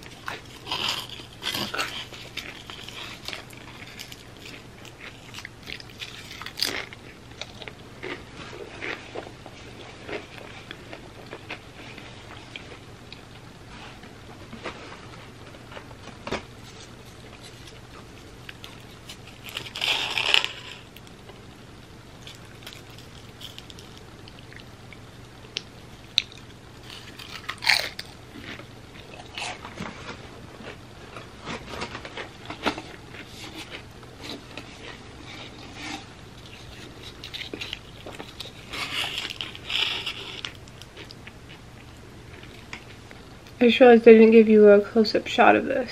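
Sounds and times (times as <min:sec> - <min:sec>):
chips crunching while chewed: 0:00.0 - 0:13.3, 0:15.8 - 0:21.1, 0:22.2 - 0:43.6.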